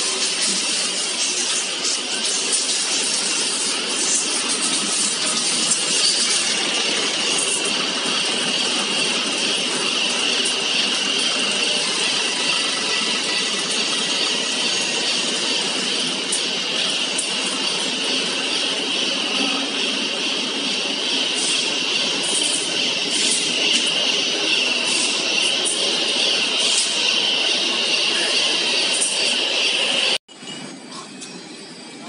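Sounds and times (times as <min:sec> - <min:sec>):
factory machinery hiss: 0:00.0 - 0:30.2.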